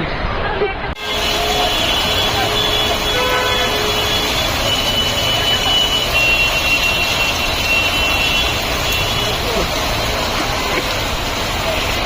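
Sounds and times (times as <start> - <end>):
road traffic engines running: 0.0 - 12.0.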